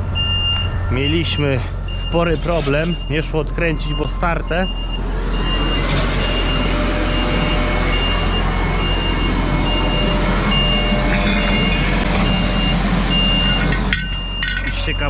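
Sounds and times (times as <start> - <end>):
electronic warning beep: 0.0 - 15.0.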